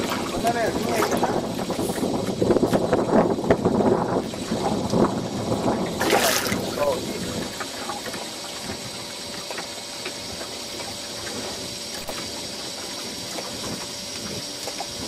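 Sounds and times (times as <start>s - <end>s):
motor hum with hiss: 0.0s - 15.0s.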